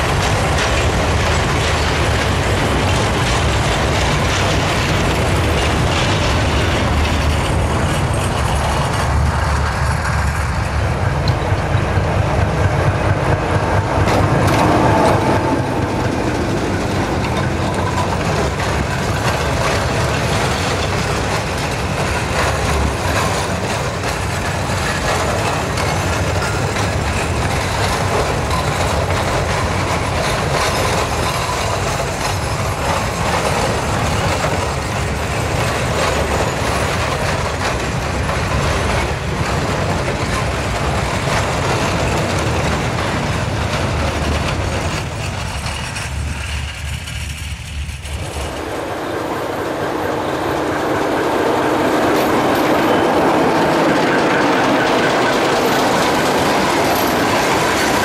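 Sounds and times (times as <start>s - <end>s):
diesel locomotive passing: 0.0s - 58.0s
train wheels clacking over rail joints: 0.0s - 58.0s.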